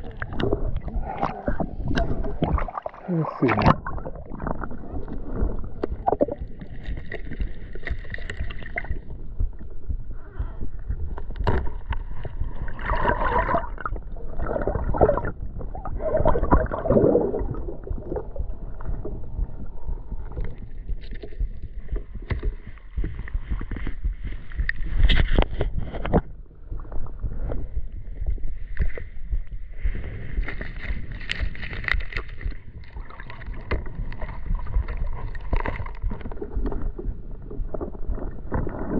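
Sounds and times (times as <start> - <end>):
steady low rumble: 0.0 - 38.9
water sloshing around wading person: 0.0 - 38.9.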